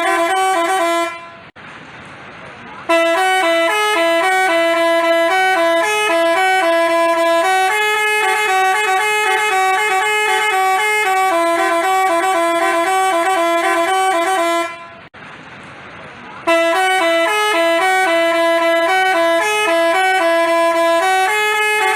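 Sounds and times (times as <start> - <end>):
bus horn playing melody: 0.0 - 1.6, 2.8 - 15.1, 16.4 - 21.9.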